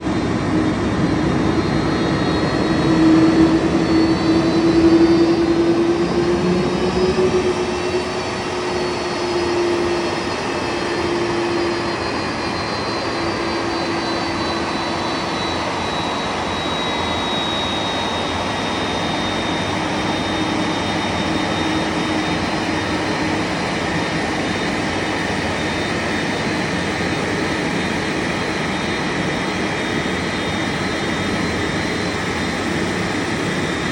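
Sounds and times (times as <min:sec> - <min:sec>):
jet engines at taxi power: 0:00.0 - 0:33.9.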